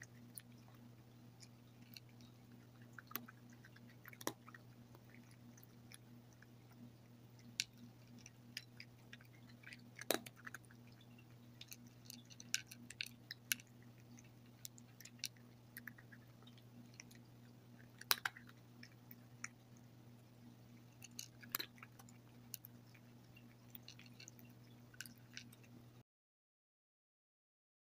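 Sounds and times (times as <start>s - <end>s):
cat crunching dry kibble: 0.0s - 25.8s
low steady hum: 0.0s - 26.0s.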